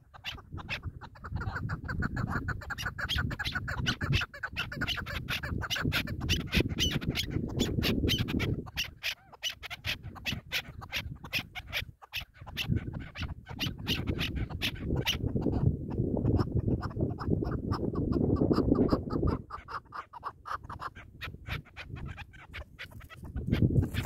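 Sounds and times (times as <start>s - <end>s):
wind rumble on microphone: 0.0s - 9.0s, 9.6s - 24.0s.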